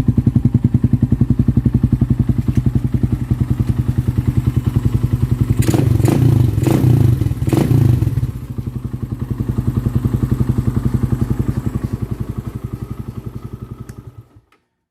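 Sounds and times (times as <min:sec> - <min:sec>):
motorcycle engine revving and idling: 0:00.0 - 0:14.5.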